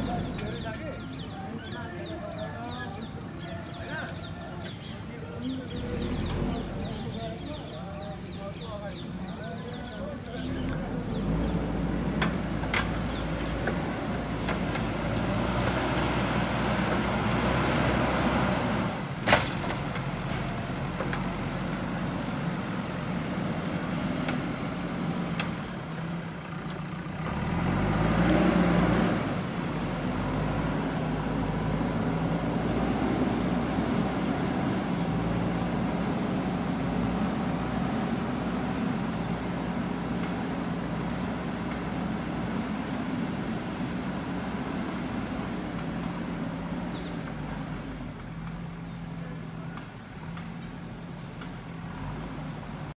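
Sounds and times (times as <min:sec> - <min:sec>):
diesel engine running: 0:00.0 - 0:01.6, 0:05.3 - 0:52.9.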